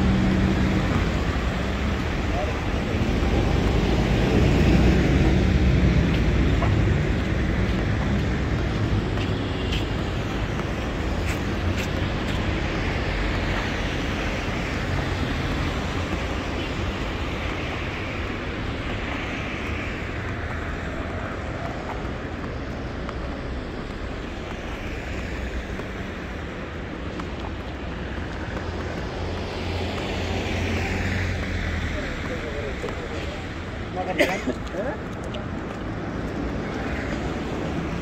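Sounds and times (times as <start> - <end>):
cars passing by: 0.0 - 38.0
low traffic rumble: 0.0 - 38.0.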